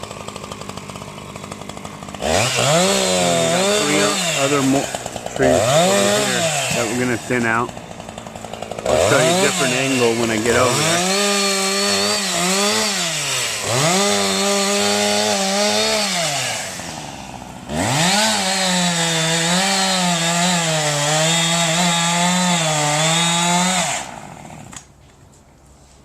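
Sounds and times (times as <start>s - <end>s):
chainsaw cutting limbs: 0.0s - 25.0s.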